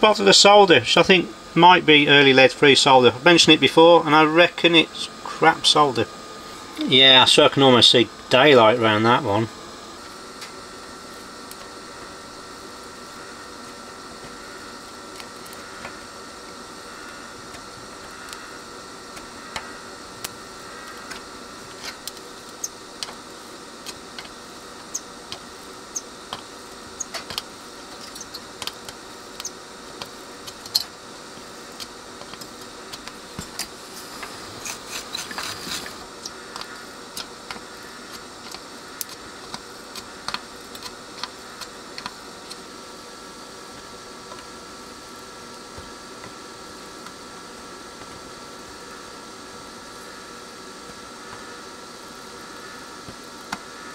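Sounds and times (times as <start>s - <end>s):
solder crackling and sizzling: 0.0s - 53.9s
steady background hiss: 0.0s - 53.9s.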